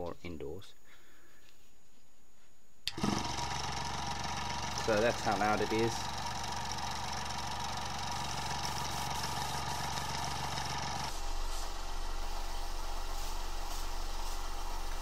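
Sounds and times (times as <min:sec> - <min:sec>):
airbrush compressor humming: 0:02.9 - 0:15.0.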